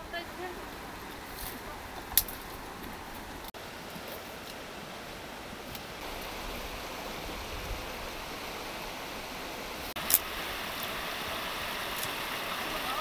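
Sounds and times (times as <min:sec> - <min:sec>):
river running over stones: 0:00.0 - 0:13.0.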